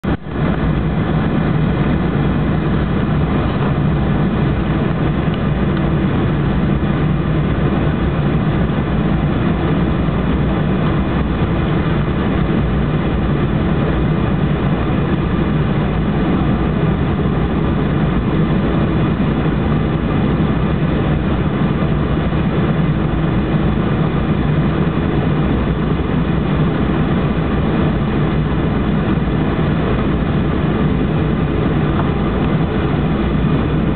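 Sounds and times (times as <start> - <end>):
jet engines rumbling in cabin: 0.0 - 33.9.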